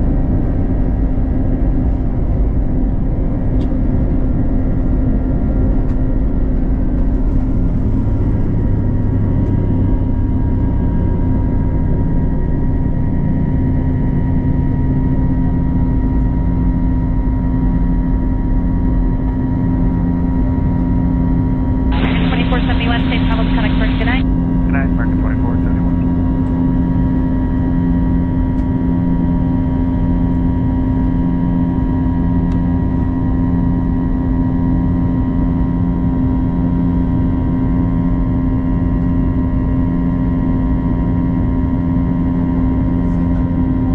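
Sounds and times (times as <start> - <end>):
jet engines rumbling at takeoff: 0.0 - 43.9.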